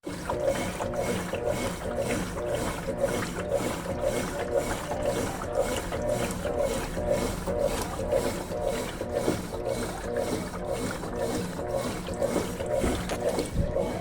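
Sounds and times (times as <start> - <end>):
washing machine agitator swishing: 0.0 - 14.0
water sloshing: 0.0 - 14.0.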